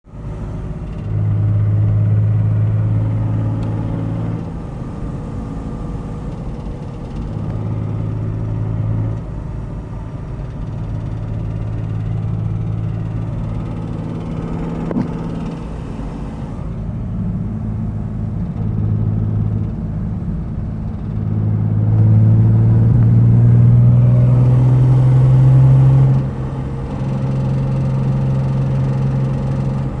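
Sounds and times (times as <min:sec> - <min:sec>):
car engine revving: 0:00.1 - 0:30.0.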